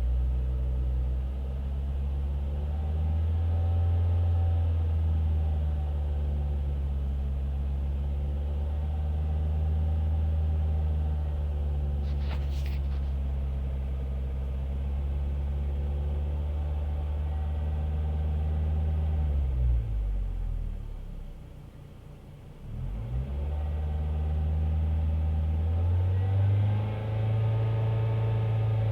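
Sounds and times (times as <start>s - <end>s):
car engine droning at steady revs: 0.0s - 28.9s.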